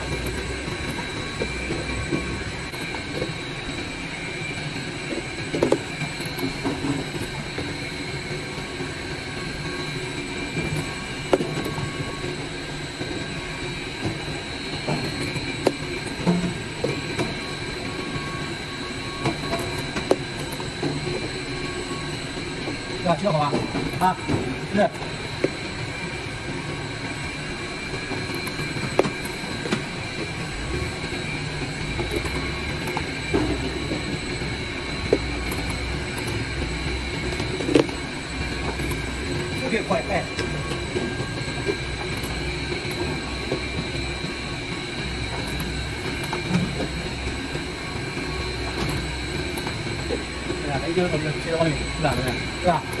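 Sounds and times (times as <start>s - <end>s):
soap cutting machine running: 0.0s - 53.0s
thin high whine: 0.0s - 53.0s.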